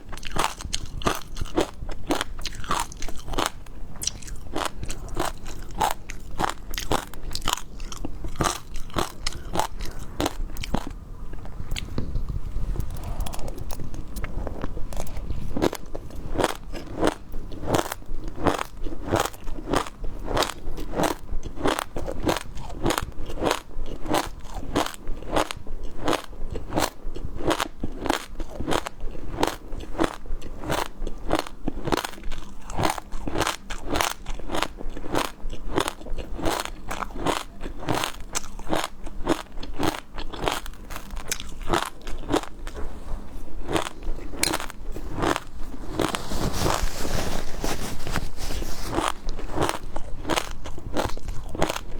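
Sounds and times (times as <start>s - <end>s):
crunchy biting and chewing: 0.0s - 51.9s.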